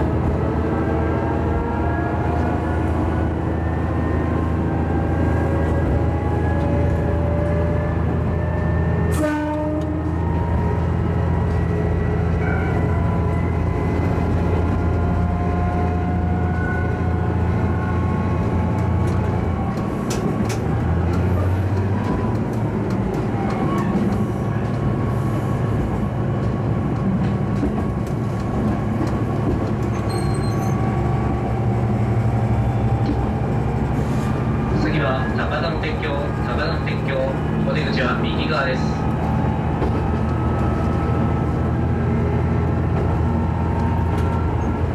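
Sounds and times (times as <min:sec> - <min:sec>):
diesel engine drone: 0:00.0 - 0:29.9, 0:30.7 - 0:44.9.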